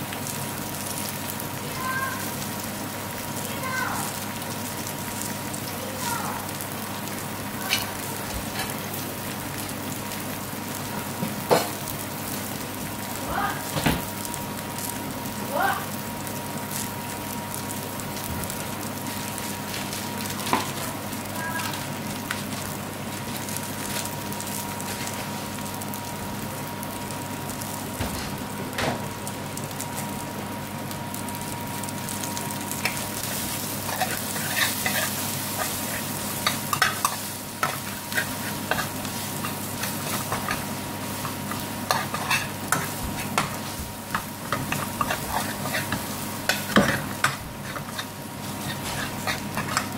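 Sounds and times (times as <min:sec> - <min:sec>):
food sizzling in frying pan: 0:00.0 - 0:49.9.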